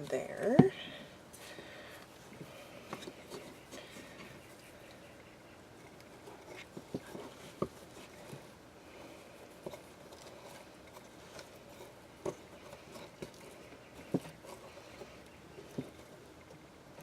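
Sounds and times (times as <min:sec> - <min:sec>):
faint rustle: 0:00.0 - 0:17.0.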